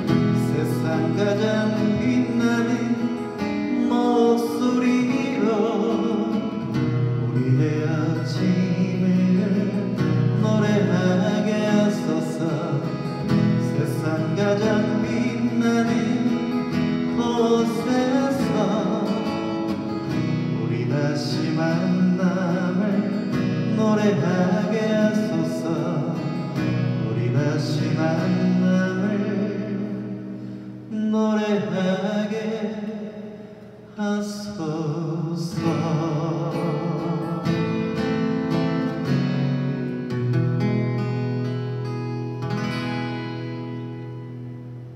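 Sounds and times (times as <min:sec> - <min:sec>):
man singing a slow ballad: 0:00.0 - 0:39.5
strummed acoustic guitar: 0:00.0 - 0:44.9.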